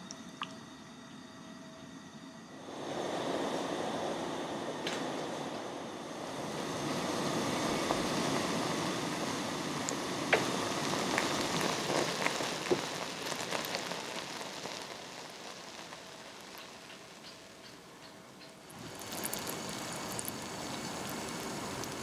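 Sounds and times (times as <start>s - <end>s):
syrup bubbling at a boil: 0.0s - 22.0s.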